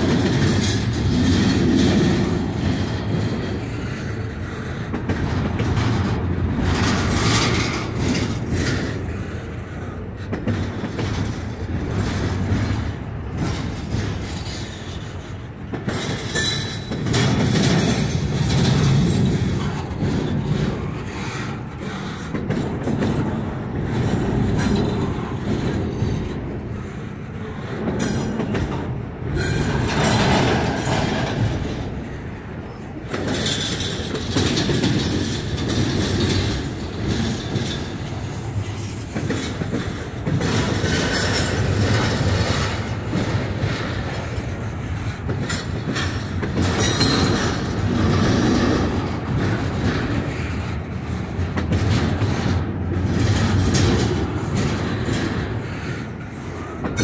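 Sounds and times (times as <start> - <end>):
wheel clicks over rail joints: 0.0 - 9.5, 10.2 - 26.7, 27.8 - 57.0
train wheels rumbling on rail: 0.0 - 57.0.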